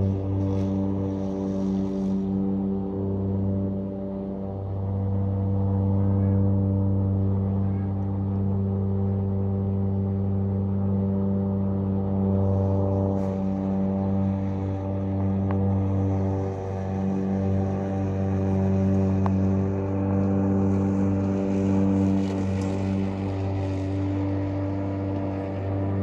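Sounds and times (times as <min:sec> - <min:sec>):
electric lawnmower humming: 0:00.0 - 0:26.0.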